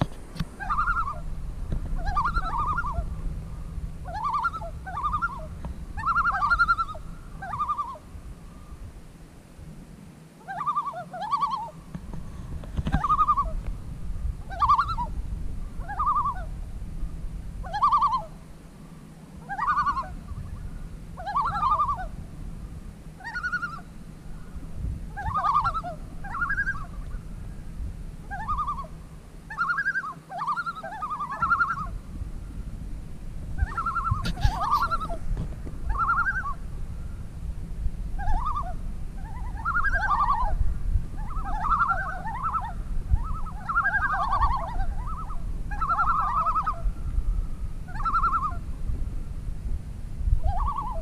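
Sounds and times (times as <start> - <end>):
bird fluttering calls: 0.0 - 8.9, 10.4 - 22.3, 23.1 - 32.7, 33.5 - 37.4, 38.1 - 48.8, 50.4 - 51.0
low steady rumble: 0.0 - 51.0.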